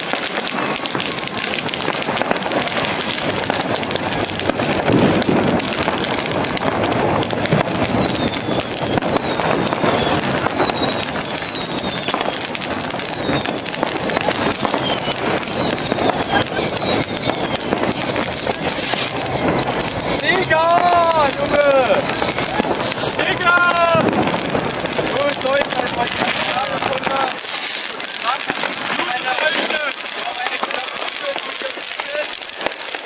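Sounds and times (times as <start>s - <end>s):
falling firework whistles: 0.0s - 33.0s
fireworks crackling: 0.0s - 33.0s.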